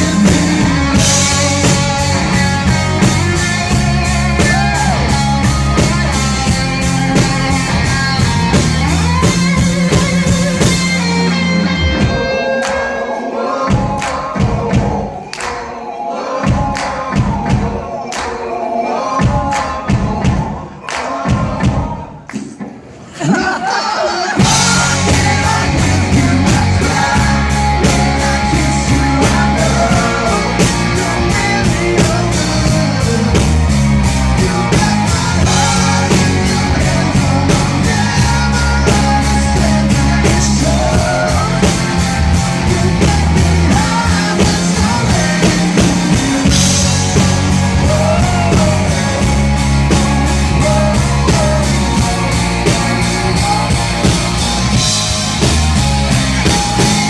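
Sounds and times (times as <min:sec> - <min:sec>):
live rock band playing: 0:00.0 - 0:22.2, 0:23.8 - 0:57.0.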